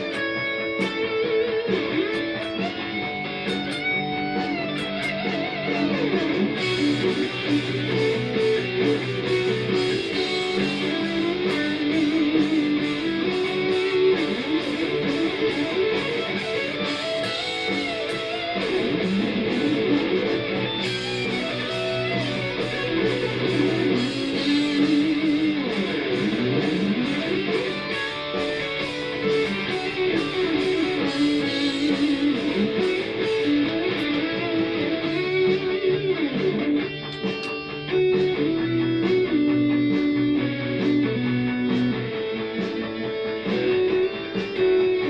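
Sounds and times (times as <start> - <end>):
backing track with drums: 0.0 - 45.0
electric guitar lead: 0.0 - 45.0.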